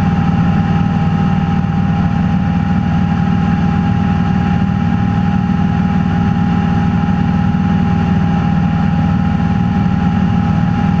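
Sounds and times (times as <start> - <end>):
airplane engine drone: 0.0 - 11.0.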